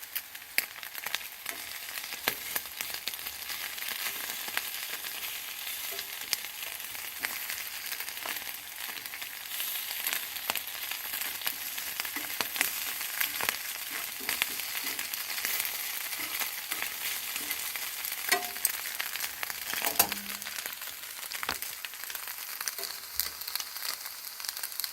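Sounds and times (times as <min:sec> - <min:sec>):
stir-fry sizzling in frying pan: 0:00.0 - 0:24.9.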